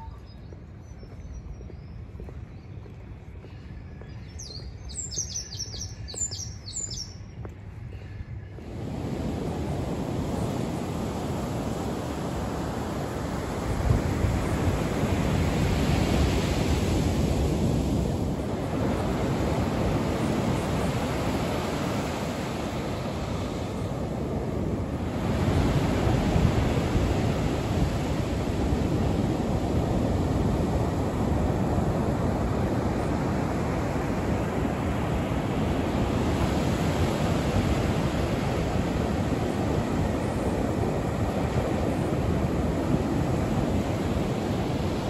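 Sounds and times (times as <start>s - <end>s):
ocean waves washing onto beach: 8.5s - 45.0s.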